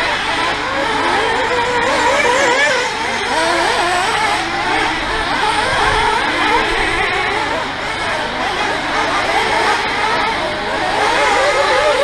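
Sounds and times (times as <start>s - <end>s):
model racing car motors: 0.0s - 12.0s.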